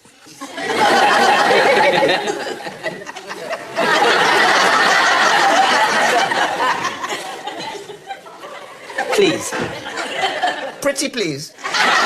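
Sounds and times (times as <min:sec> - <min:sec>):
studio audience laughing: 0:00.3 - 0:11.0, 0:11.6 - 0:12.0.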